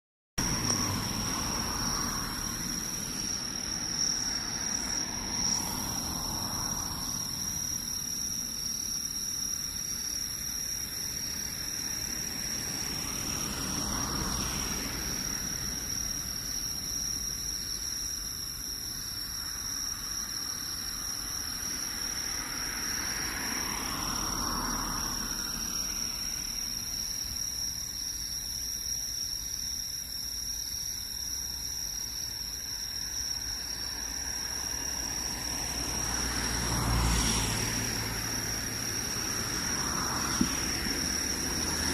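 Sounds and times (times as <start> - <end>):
insects trilling: 0.4 - 41.9.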